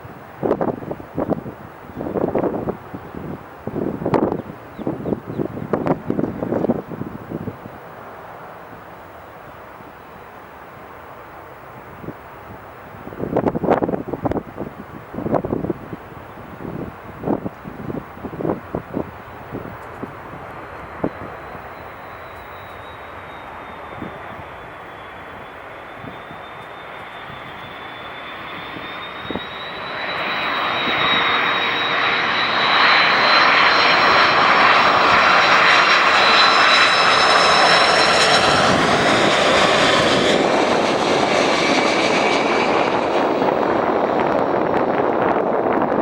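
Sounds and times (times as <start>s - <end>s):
jet airliner engines: 0.0s - 46.0s
high engine whine: 0.1s - 46.0s.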